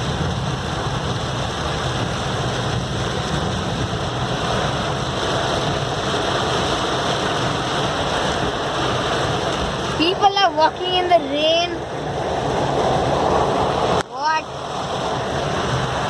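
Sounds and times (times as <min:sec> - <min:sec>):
heavy rain pouring: 0:00.0 - 0:16.0
vehicle rumbling: 0:00.0 - 0:16.0.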